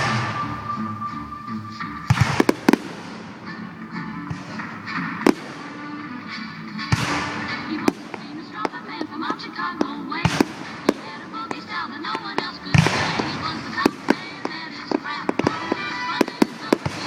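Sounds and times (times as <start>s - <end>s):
fireworks bangs: 0.0s - 17.0s
music: 0.0s - 17.0s.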